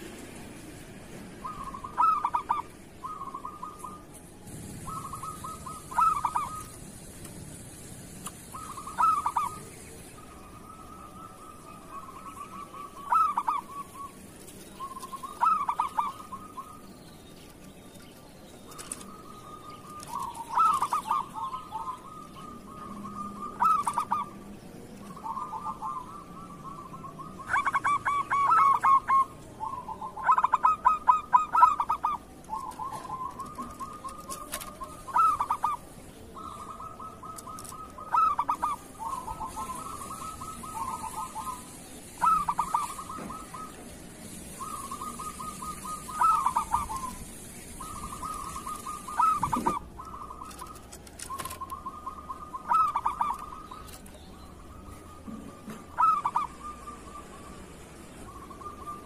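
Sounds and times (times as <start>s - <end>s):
doves cooing: 1.1s - 16.9s, 18.5s - 59.0s.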